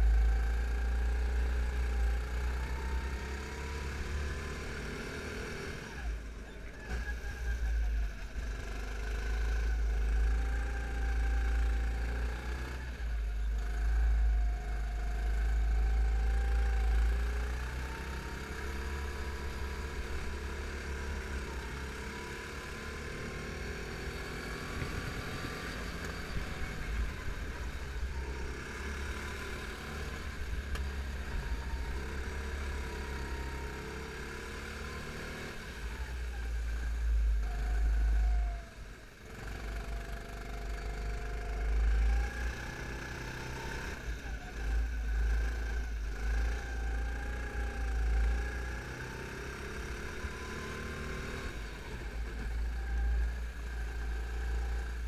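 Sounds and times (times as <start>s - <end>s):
kart engine revving: 1.0s - 55.0s.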